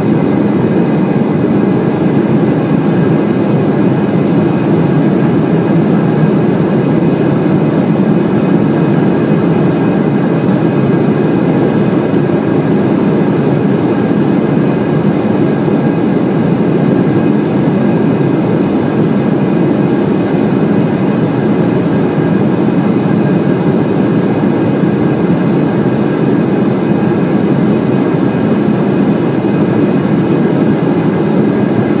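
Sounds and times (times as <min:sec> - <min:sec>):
airliner cabin engine rumble: 0:00.0 - 0:32.0
faint steady whine: 0:00.0 - 0:32.0.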